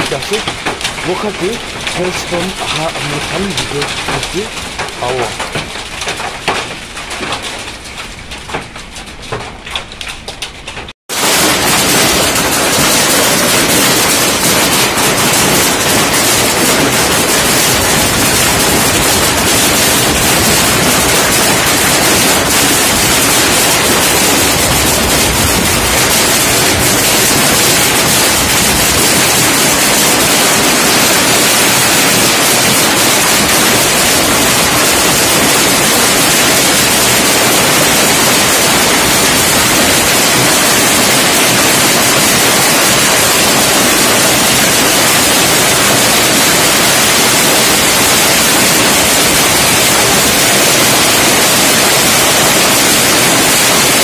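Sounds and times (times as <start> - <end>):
heavy hail pelting down: 0.0 - 54.0.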